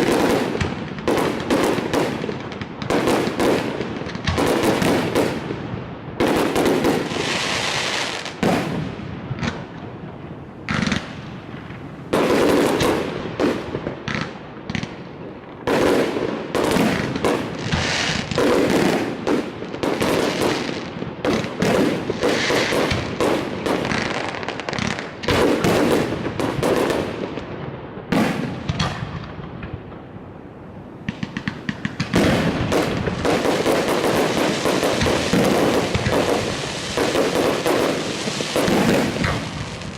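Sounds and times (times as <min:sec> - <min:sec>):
crackling fireworks reports: 0:00.0 - 0:39.9
fireworks exploding: 0:00.0 - 0:39.9.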